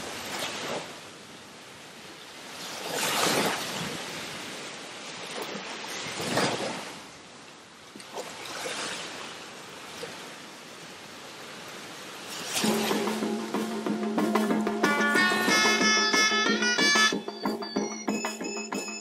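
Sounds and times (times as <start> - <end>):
waves breaking on beach: 0.0 - 17.2.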